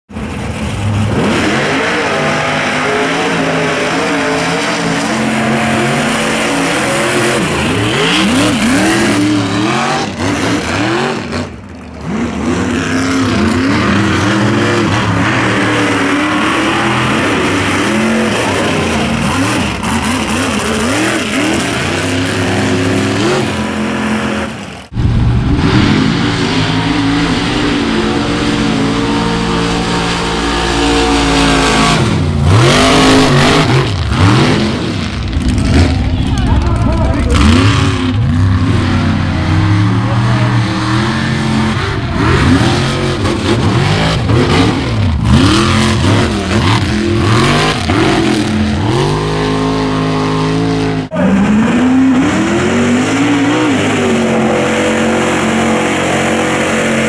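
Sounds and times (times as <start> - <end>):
truck engine revving hard: 0.1 - 57.0.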